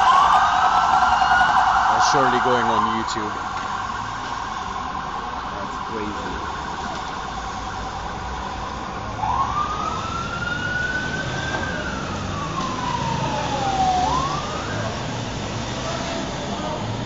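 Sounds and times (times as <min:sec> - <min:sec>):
low rumble of street traffic: 0:00.0 - 0:17.0
police siren wailing: 0:00.0 - 0:17.0.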